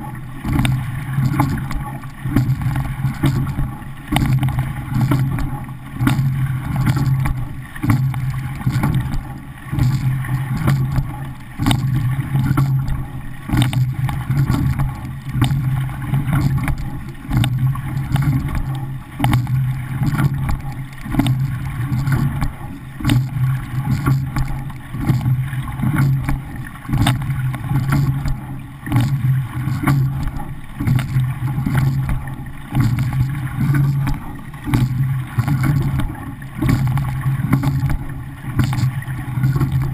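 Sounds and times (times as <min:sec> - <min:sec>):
light knock of oar stroke: 0:00.0 - 0:39.9
water rushing past hull: 0:00.0 - 0:39.9.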